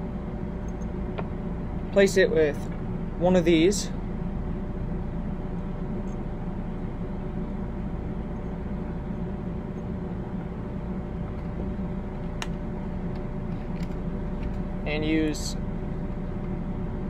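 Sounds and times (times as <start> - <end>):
mechanical hum with tones: 0.0 - 17.0.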